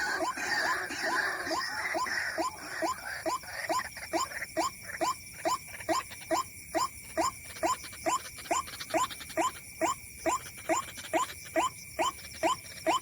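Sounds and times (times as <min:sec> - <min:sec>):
bird call repeated evenly: 0:00.0 - 0:13.0.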